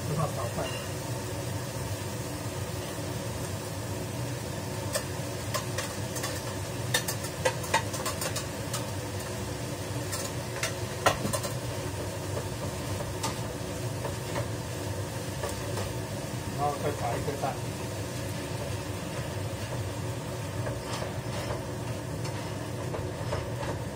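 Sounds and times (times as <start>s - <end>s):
food sizzling in a wok: 0.0s - 23.9s.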